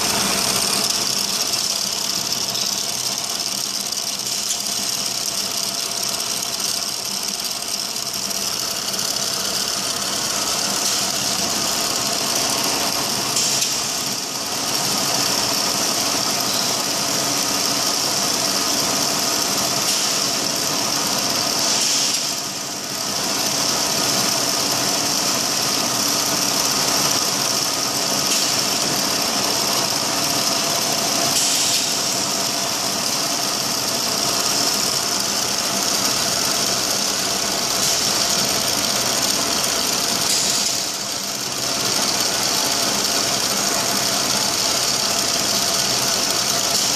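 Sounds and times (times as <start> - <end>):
drilling machine running: 0.0 - 46.9.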